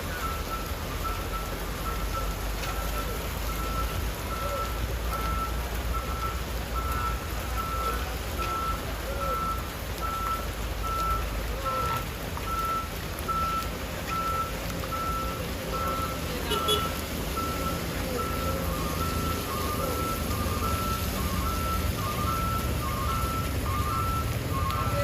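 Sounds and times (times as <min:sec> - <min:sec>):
truck engine rumble: 0:00.0 - 0:25.0
truck reversing alarm beeping: 0:00.0 - 0:25.0.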